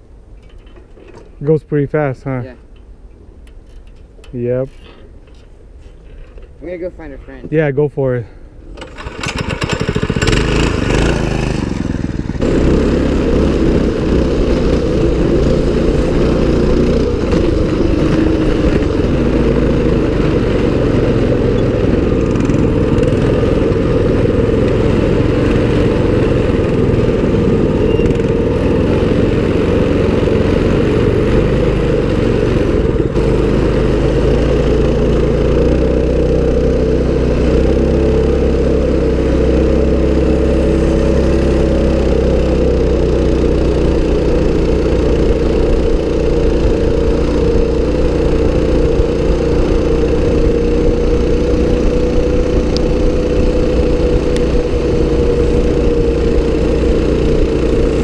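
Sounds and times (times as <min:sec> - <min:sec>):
mini bike engine running: 0:08.8 - 0:58.0.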